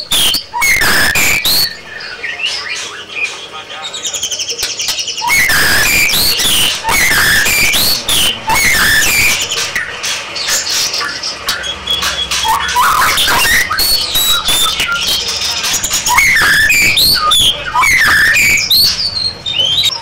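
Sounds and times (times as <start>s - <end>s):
bird singing whistled phrases: 0.0s - 3.3s, 3.9s - 20.0s.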